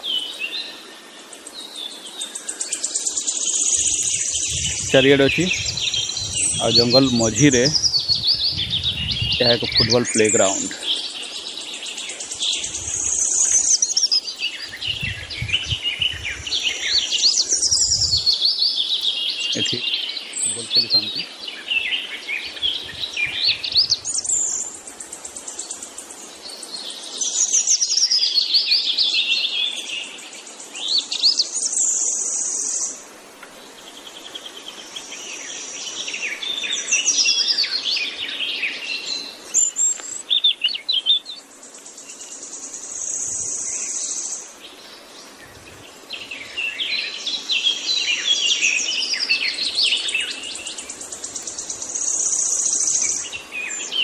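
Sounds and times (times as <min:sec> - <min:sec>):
high insect buzz: 0:00.0 - 0:28.1, 0:31.3 - 0:54.0
birds chirping and singing: 0:00.0 - 0:54.0.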